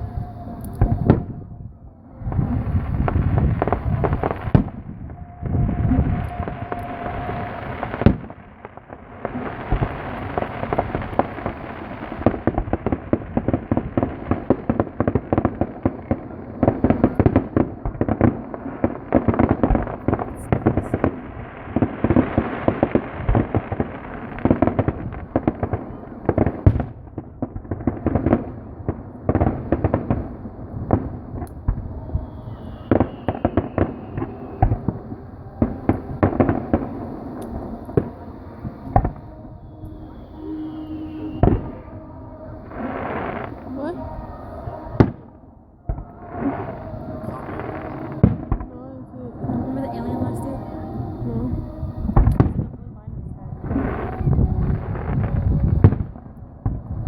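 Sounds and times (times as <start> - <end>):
firework falling whistle: 0.0 - 28.6, 29.3 - 48.8, 49.6 - 52.9, 53.6 - 57.0
fireworks bangs and crackles: 0.0 - 57.0.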